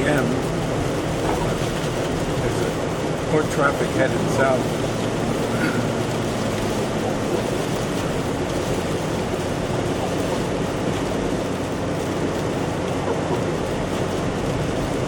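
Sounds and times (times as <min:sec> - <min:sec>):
low engine hum: 0:00.0 - 0:15.0
tyre and road hiss: 0:00.0 - 0:15.0.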